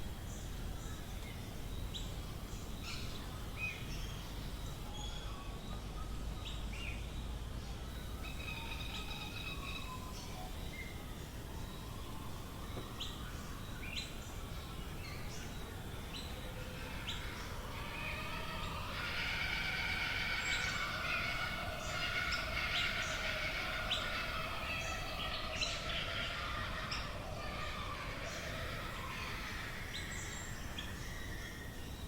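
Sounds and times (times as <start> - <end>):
chorus of birds: 0.0 - 32.0.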